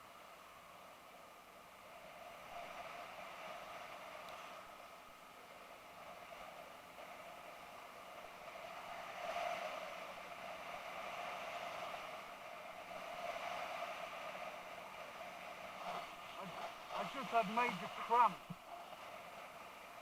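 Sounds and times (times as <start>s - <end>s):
motorcycle engine and wind drone: 0.0s - 20.0s.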